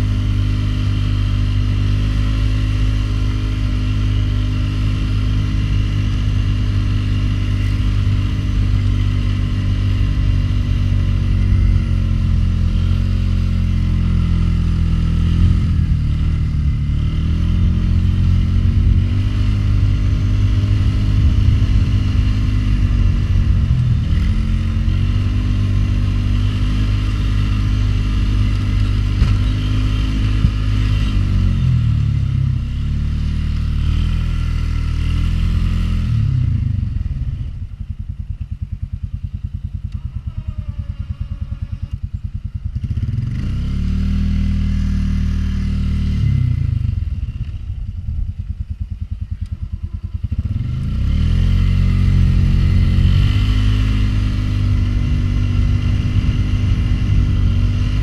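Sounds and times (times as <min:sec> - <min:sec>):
atv engine under load: 0:00.0 - 0:58.0.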